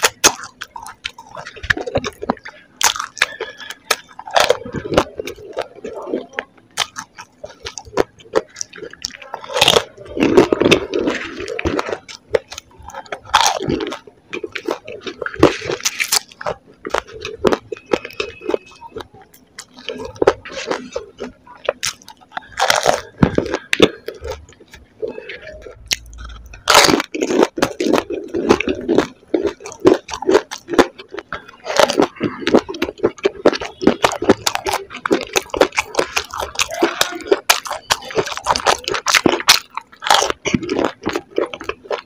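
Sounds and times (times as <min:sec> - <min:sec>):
chewing crisp shells: 0:00.0 - 0:42.0.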